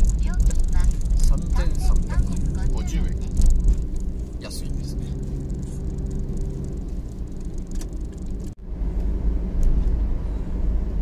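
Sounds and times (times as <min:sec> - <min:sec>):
van road and engine rumble: 0:00.0 - 0:11.0.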